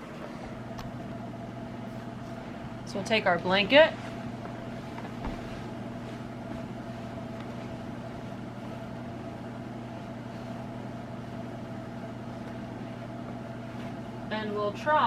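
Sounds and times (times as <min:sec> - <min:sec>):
electric heater humming: 0:00.0 - 0:15.0.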